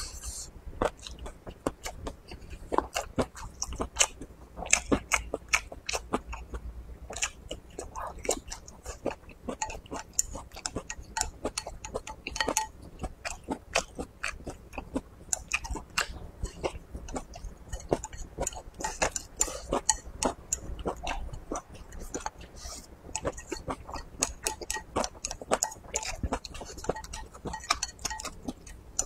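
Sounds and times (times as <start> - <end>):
man chewing food: 0.0 - 29.0.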